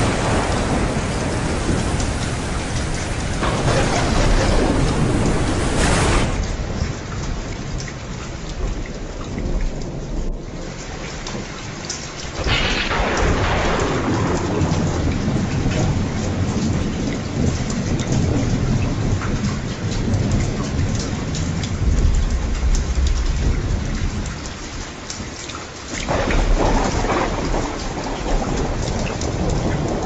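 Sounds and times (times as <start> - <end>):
rolling thunder: 0.0 - 11.5, 12.1 - 24.6, 26.0 - 30.0
steady rain: 0.0 - 30.0.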